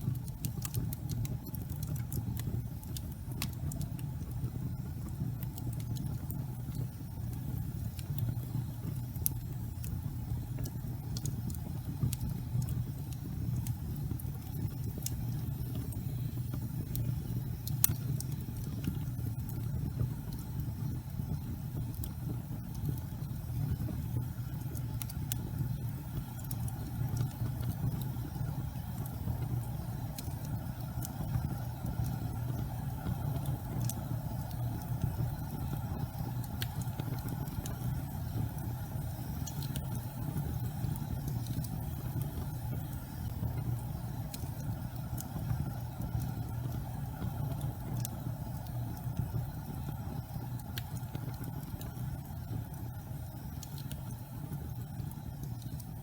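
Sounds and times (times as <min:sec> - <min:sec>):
fire crackles and pops: 0:00.0 - 0:56.0
gas fire flames rumbling: 0:00.0 - 0:56.0.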